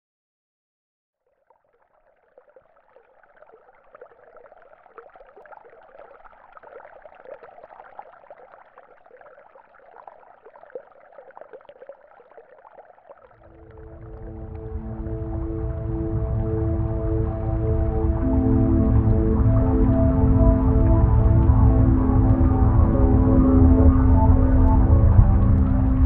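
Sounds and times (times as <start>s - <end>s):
water splashing and trickling: 1.2s - 26.0s.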